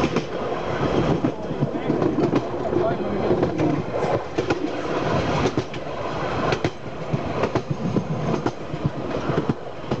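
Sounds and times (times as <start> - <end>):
train running rumble: 0.0 - 10.0
wheels clicking over rail joints: 0.0 - 10.0.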